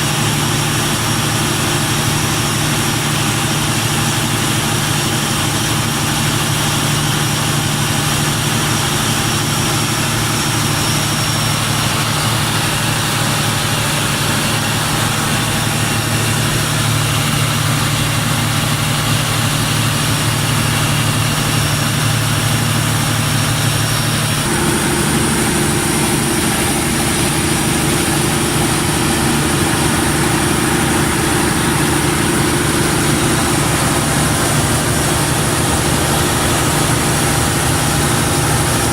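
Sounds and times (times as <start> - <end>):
diesel generator droning: 0.0 - 38.9.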